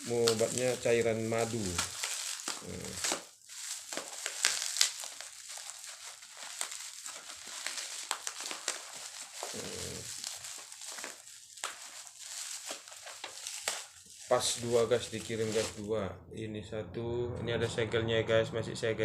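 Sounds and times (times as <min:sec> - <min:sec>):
plastic wrap crinkling: 0:00.0 - 0:15.9.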